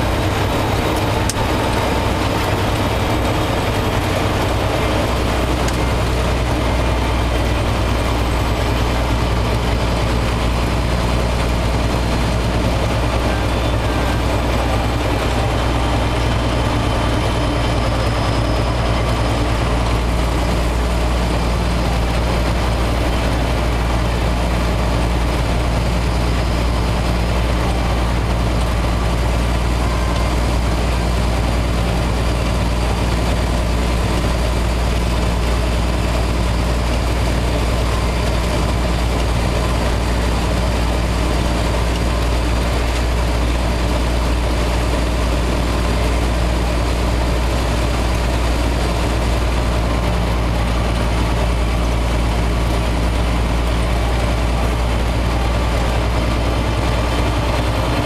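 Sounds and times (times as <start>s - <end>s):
road noise: 0.0s - 58.0s
truck engine droning: 0.0s - 58.0s.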